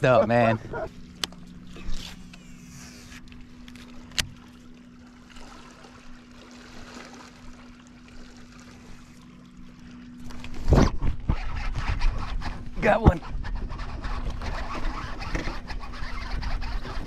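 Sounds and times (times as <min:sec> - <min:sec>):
steady low hum: 0:00.0 - 0:17.0
water lapping against boat hull: 0:00.0 - 0:17.0.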